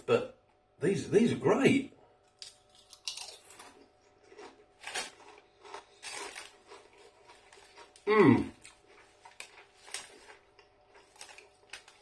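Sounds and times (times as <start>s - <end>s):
potato crisp crunching: 2.3s - 12.0s.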